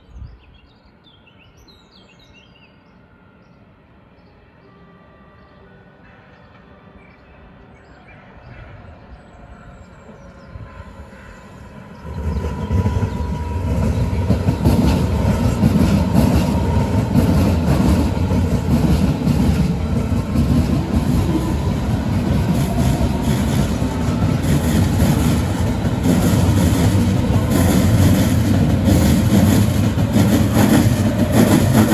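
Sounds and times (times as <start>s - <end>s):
electric train passing: 0.5s - 31.9s.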